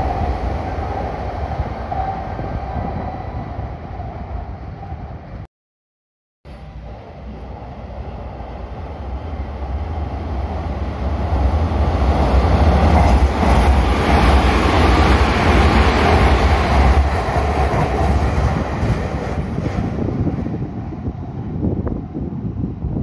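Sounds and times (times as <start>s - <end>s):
electric train passing: 0.0s - 5.4s, 6.5s - 22.7s.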